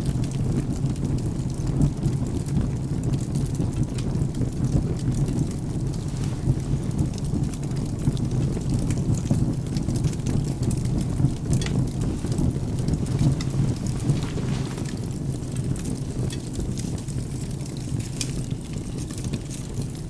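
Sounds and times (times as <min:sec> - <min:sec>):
rain and thunder rumble: 0:00.0 - 0:19.8
firewood crackling: 0:00.0 - 0:20.0.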